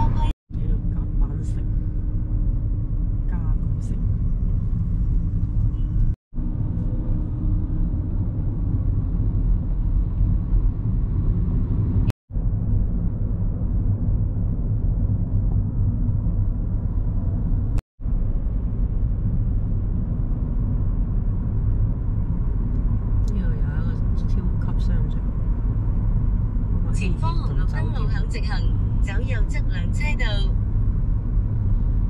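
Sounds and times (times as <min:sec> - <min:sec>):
car road noise rumble: 0:00.0 - 0:32.0.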